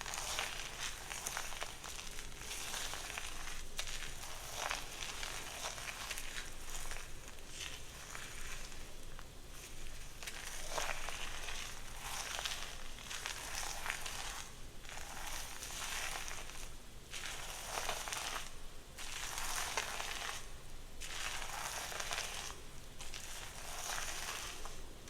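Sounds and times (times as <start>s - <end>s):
hair brushing crackling rustle: 0.0s - 16.6s, 21.0s - 24.8s.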